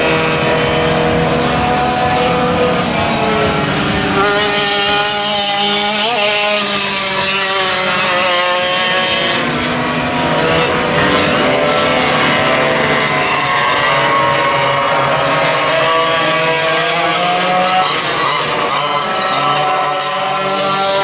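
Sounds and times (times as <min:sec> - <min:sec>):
kart engines at high revs: 0:00.0 - 0:21.0.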